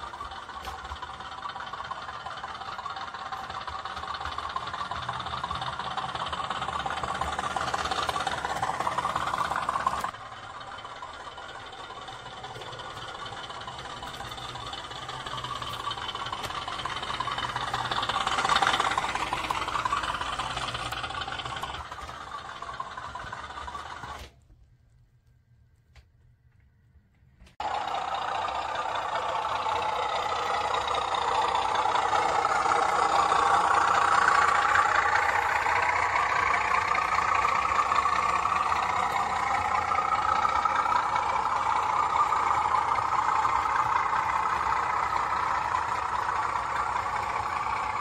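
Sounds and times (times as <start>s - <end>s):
model diesel engine from speaker: 0.0s - 48.0s.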